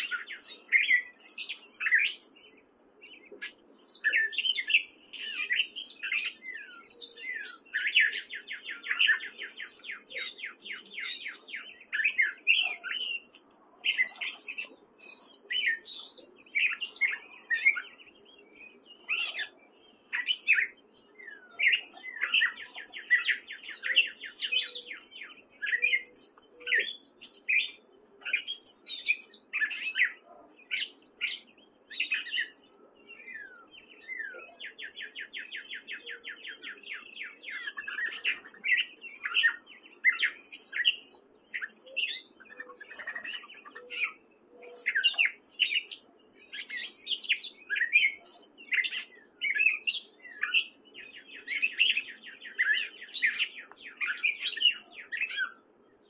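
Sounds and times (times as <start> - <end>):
bird singing varied notes: 0.0 - 56.0.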